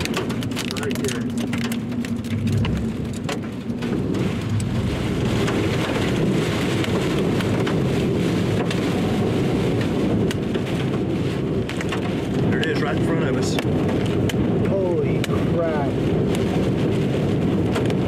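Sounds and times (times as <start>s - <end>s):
heavy rain on a car: 0.0s - 18.0s
raindrops ticking on glass: 0.0s - 18.0s.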